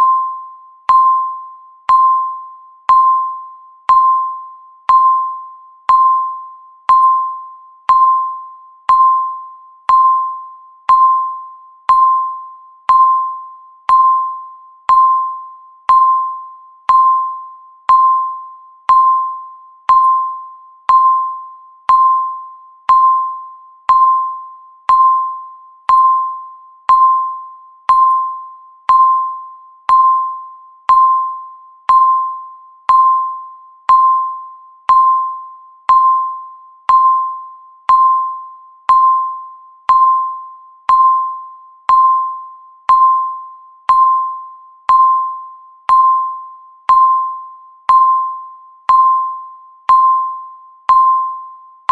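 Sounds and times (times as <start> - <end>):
countdown timer beeps: 0.0 - 51.9.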